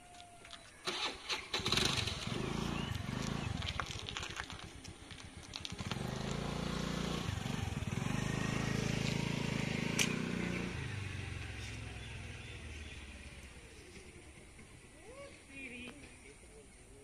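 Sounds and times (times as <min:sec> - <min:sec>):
low vehicle rumble: 0:01.6 - 0:17.0.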